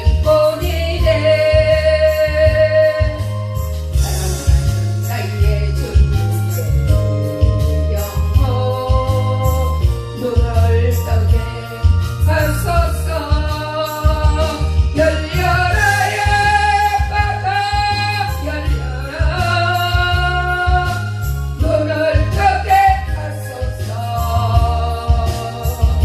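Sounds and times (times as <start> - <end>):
instrumental accompaniment with bass: 0.0 - 26.0
person singing with vibrato: 0.0 - 26.0.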